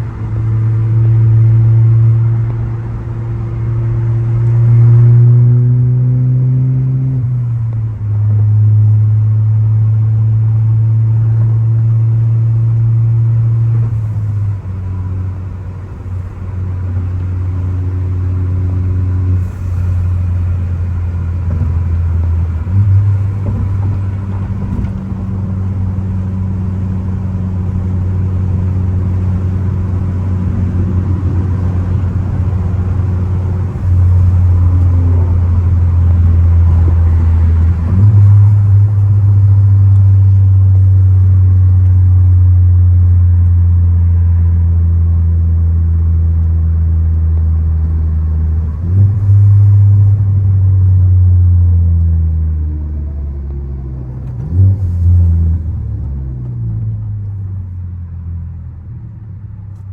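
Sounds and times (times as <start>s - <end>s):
car engine and exhaust droning: 0.0s - 59.9s.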